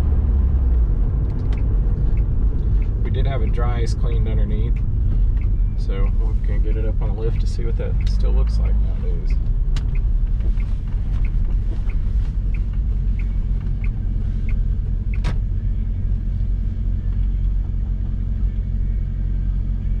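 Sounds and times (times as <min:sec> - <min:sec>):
turn signal ticking: 0:00.0 - 0:20.0.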